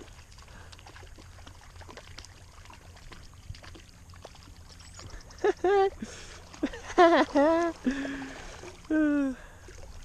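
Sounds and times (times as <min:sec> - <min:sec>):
river water trickling: 0:00.0 - 0:10.0
small water splashes: 0:00.0 - 0:10.0.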